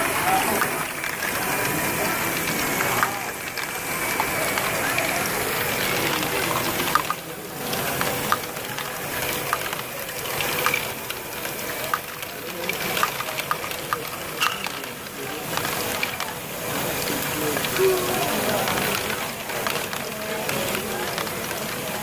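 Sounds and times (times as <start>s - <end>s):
plastic balls rolling and rattling: 2.4s - 22.0s.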